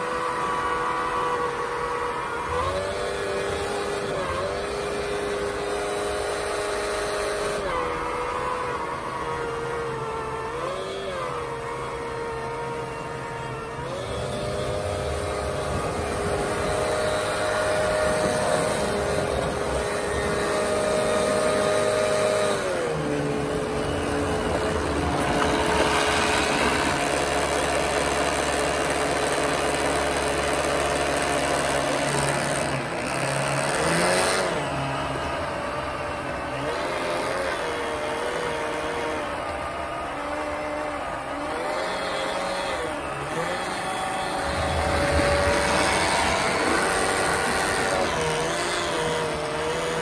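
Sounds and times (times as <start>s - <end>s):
electric motor whine: 0.0s - 50.0s.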